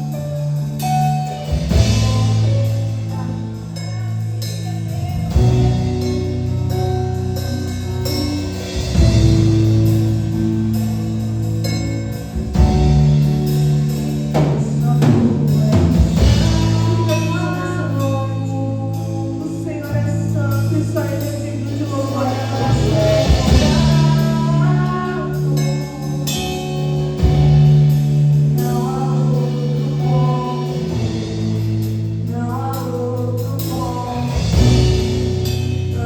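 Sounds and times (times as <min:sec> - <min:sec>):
live band playing: 0:00.0 - 0:36.0.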